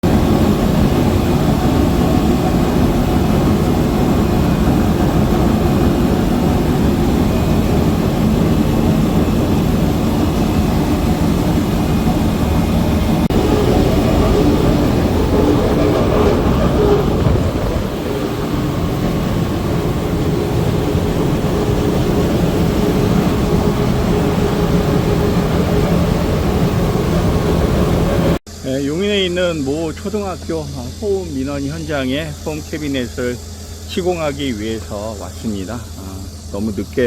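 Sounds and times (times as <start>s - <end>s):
exhaust fan rumbling: 0.0s - 37.0s.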